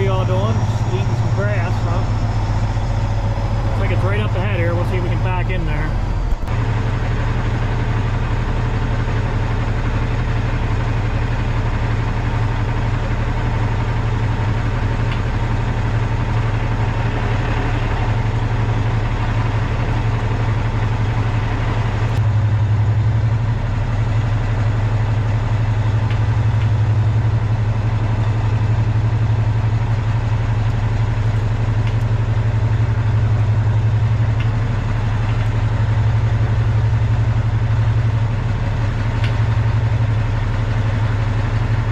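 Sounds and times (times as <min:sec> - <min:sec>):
diesel truck engine running: 0:00.0 - 0:41.9.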